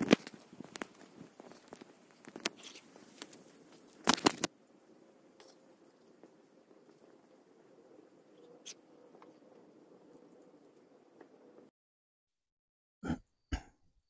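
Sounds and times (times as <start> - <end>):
faint hiss: 0.0 - 11.7.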